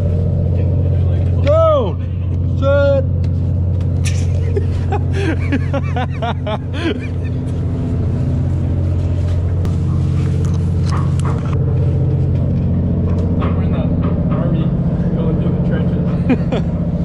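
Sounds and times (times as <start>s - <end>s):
boat machinery droning: 0.0s - 17.0s.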